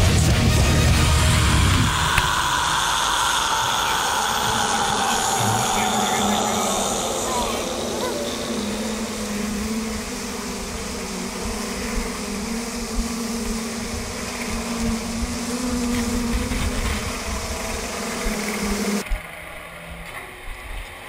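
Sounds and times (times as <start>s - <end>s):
boat engine droning hum: 0.0s - 21.0s
wind buffeting microphone: 1.5s - 19.1s.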